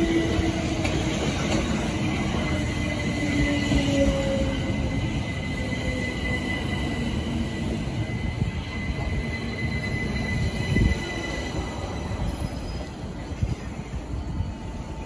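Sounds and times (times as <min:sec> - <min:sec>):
train wheels rumbling and squealing: 0:00.0 - 0:15.0.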